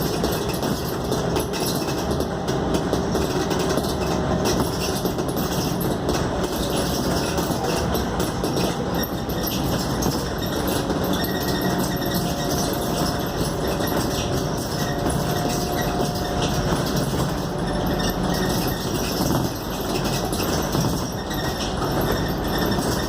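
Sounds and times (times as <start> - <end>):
bus engine and road noise: 0.0 - 23.0.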